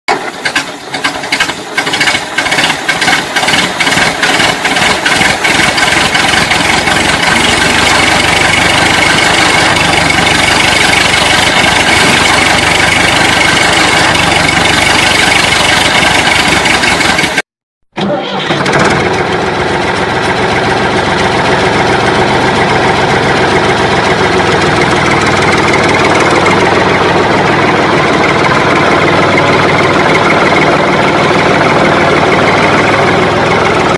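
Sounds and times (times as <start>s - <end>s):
engine starting and running: 0.1s - 33.9s.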